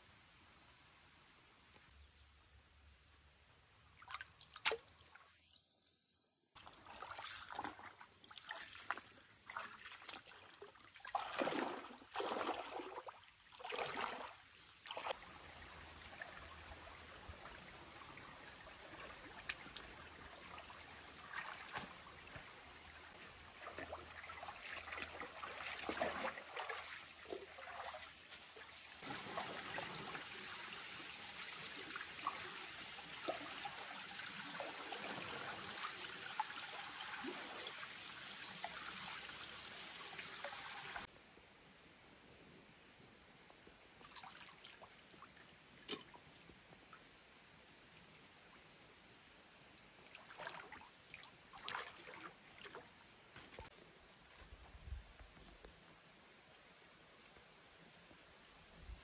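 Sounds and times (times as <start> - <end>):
stream trickling: 3.8 - 41.1, 43.9 - 54.6.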